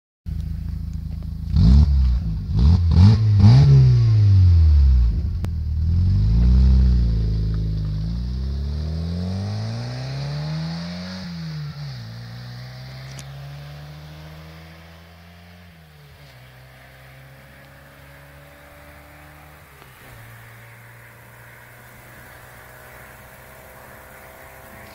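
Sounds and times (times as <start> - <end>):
car engine idling and revving: 0.3 - 24.9.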